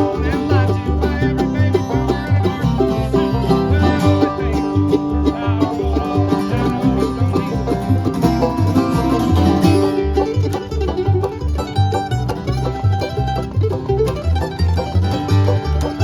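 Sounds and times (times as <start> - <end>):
band playing instrumental: 0.0 - 16.0
steady bass beat: 0.0 - 16.0.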